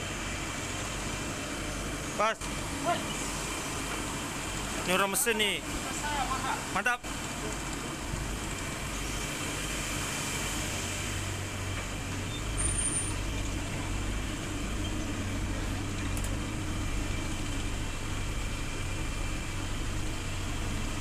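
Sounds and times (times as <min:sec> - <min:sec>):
ferry engine drone: 0:00.0 - 0:21.0.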